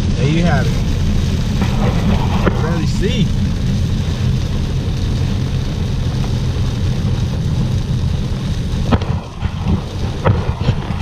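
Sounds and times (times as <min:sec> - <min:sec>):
heavy rain on car: 0:00.0 - 0:11.0
wet road noise: 0:00.0 - 0:11.0.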